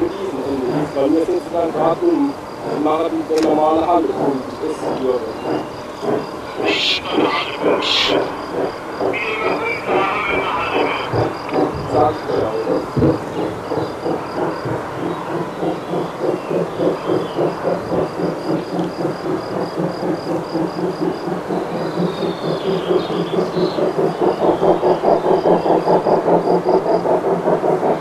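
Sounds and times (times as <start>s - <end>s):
high insect chirping: 0.0s - 27.1s
steam locomotive exhaust beats: 0.0s - 28.0s.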